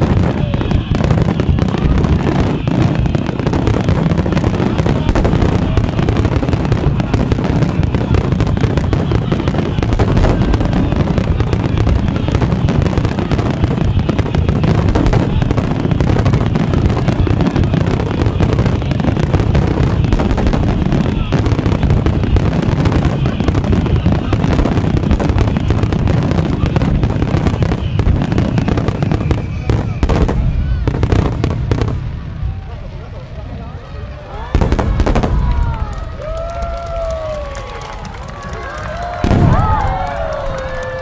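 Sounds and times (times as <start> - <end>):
fireworks bangs and crackle: 0.0 - 41.0.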